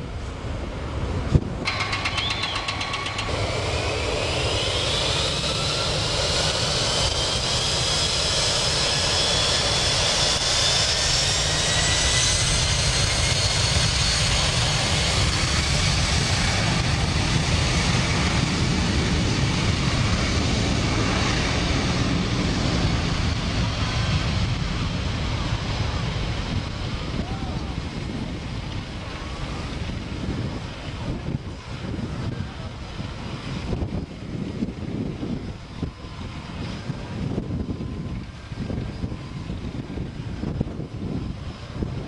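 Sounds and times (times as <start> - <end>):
jet engines spooling up: 1.0 - 42.0.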